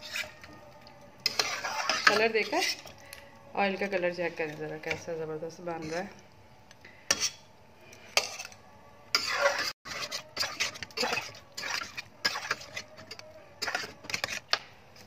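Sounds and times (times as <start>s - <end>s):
metal spatula scraping steel pot: 0.0s - 0.6s, 1.2s - 3.0s, 3.6s - 6.2s, 7.0s - 15.0s.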